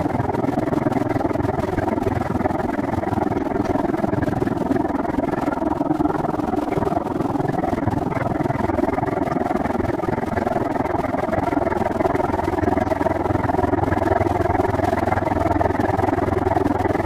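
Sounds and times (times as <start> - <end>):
wind and bicycle riding rumble: 0.0 - 17.0.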